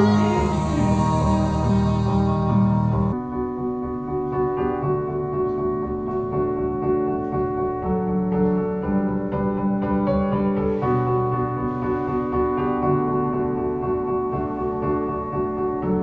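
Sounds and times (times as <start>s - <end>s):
instrumental keyboard music: 0.0s - 16.0s.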